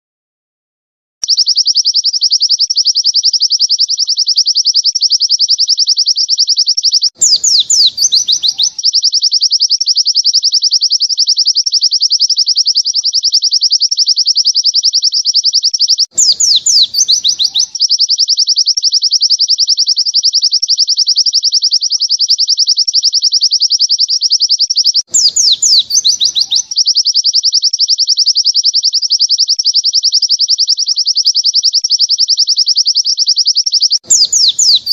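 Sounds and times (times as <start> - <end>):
bird chirping fast run: 1.2 - 34.9.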